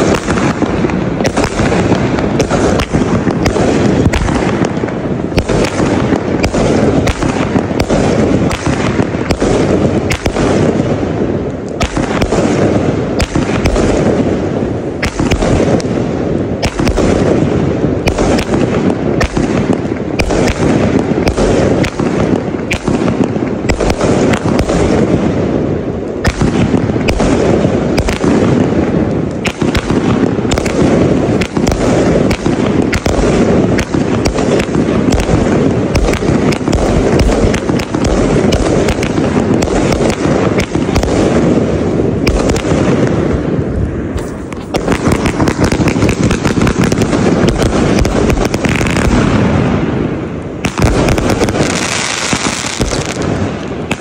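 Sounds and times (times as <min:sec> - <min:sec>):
fireworks launching and bursting: 0:00.0 - 0:54.0.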